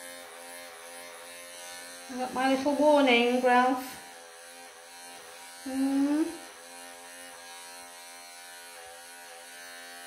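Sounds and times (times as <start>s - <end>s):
pet clippers buzzing: 0.0s - 10.0s.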